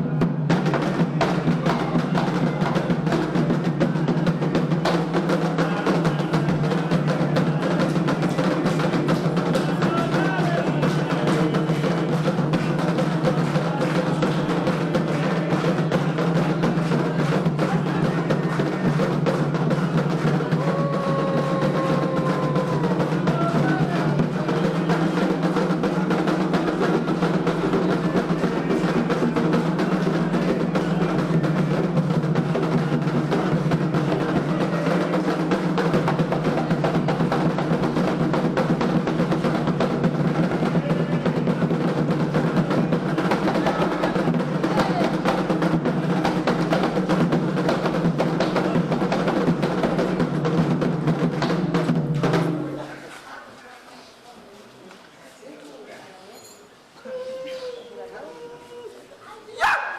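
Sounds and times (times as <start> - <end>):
hand drums in fast rhythm: 0.0 - 53.0.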